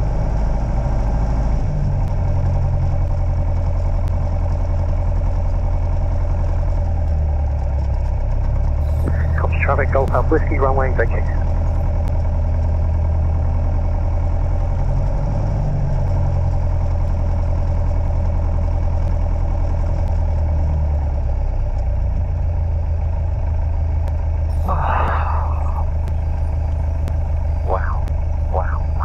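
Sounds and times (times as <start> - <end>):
light aircraft engine droning: 0.0 - 29.0.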